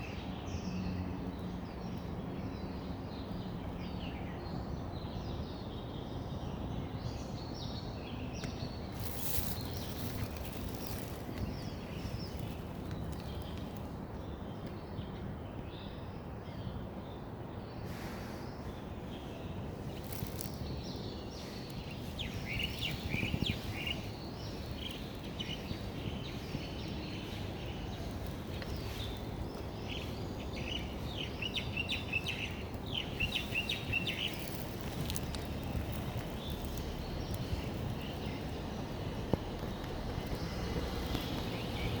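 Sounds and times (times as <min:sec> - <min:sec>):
small birds twittering: 0:00.0 - 0:42.0.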